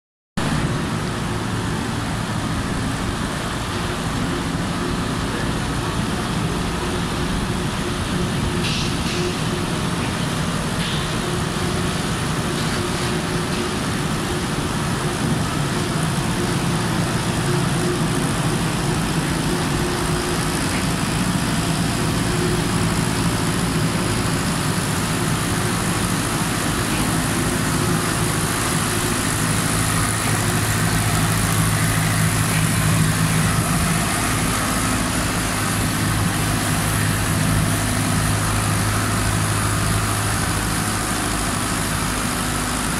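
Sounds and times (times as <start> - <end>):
diesel tractor engine in tunnel: 0.4 - 42.9.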